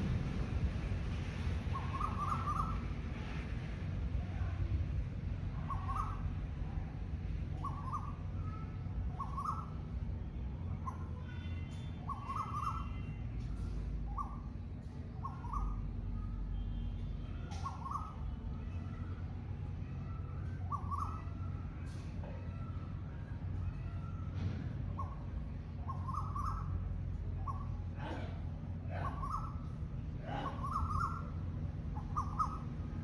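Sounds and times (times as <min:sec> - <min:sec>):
steady low rumble: 0:00.0 - 0:33.0
faint bird chirps: 0:01.7 - 0:02.9, 0:05.6 - 0:06.4, 0:07.5 - 0:24.3, 0:24.9 - 0:33.0.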